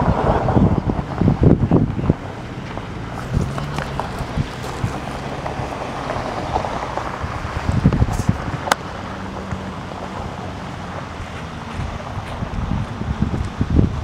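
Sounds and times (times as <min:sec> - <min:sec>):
off-road vehicle engine humming: 0:00.0 - 0:14.0
wind buffeting microphone: 0:00.0 - 0:14.0.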